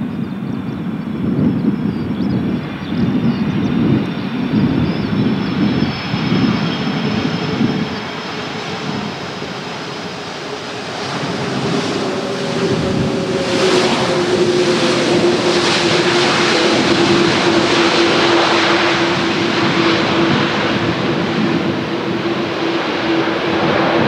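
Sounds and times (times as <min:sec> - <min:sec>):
jet engines roaring: 0:00.0 - 0:24.0
steady hum sinking in pitch: 0:00.0 - 0:24.0.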